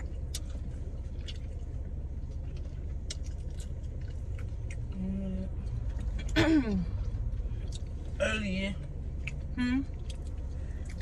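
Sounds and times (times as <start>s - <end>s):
person chewing food: 0.0s - 8.2s, 9.0s - 11.0s
low rumble: 0.0s - 11.0s.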